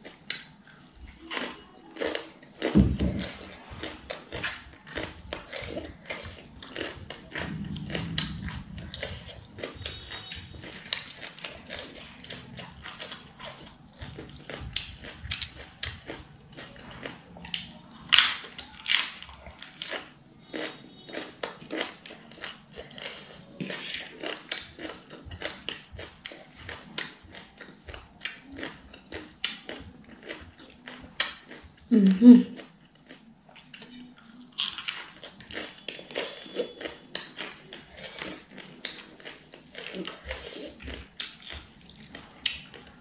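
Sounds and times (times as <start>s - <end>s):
chewing and crunching cabbage: 0.0s - 43.0s.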